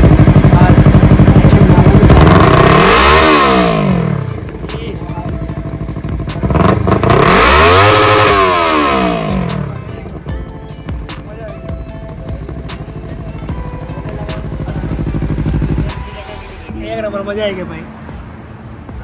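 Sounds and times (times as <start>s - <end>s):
motorcycle engine revving: 0.0s - 11.1s, 12.1s - 16.6s.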